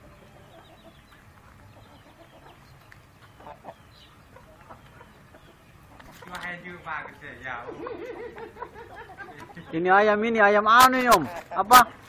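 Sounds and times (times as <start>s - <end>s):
poultry clucking and chirping: 0.0s - 12.0s.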